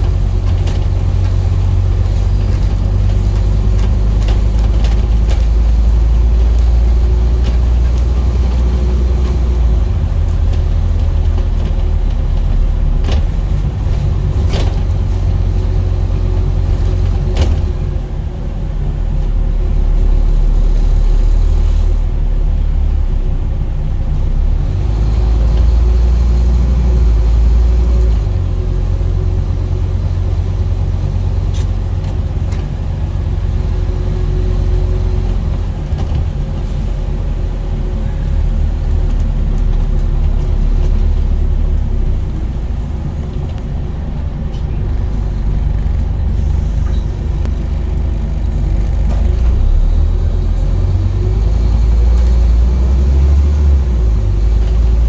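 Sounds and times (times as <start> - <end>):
diesel bus engine drone: 0.0 - 55.0.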